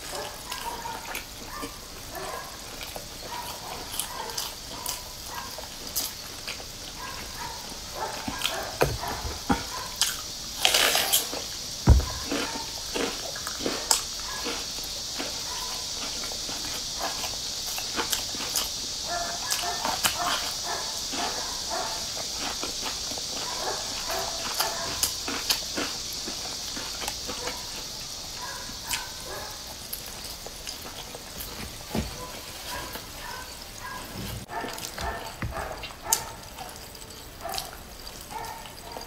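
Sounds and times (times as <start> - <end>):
chewing and lip-smacking: 0.0 - 31.6, 32.2 - 39.0
steady hiss: 0.0 - 39.0.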